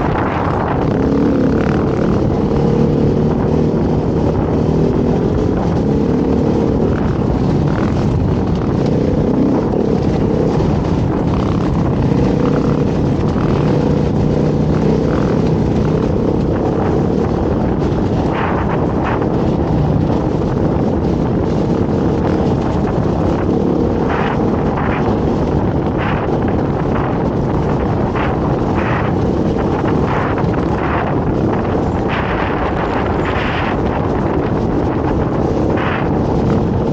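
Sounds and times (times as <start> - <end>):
dirt bike engine running: 0.0 - 36.9.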